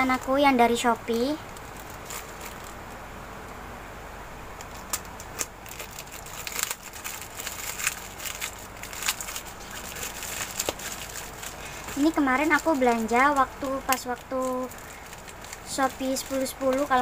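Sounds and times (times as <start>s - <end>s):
plastic mailer tearing and crinkling: 1.5s - 2.8s, 4.6s - 17.0s.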